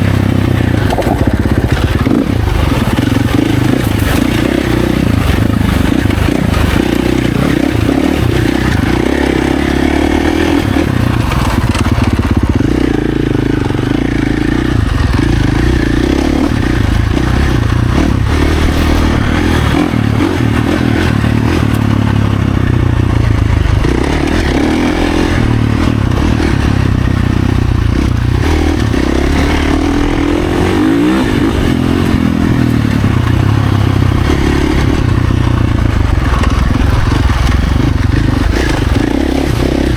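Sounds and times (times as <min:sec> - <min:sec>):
dirt bike engine running hard: 0:00.0 - 0:39.9.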